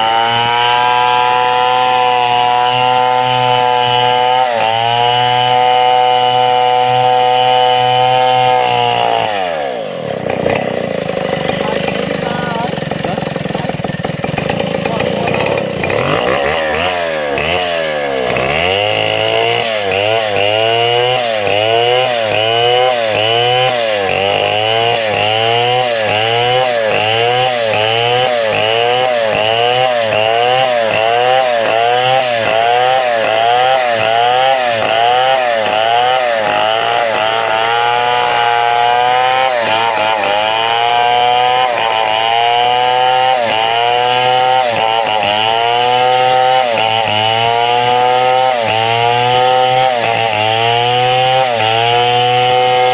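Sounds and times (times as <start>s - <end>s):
chainsaw engine under load: 0.0s - 52.9s.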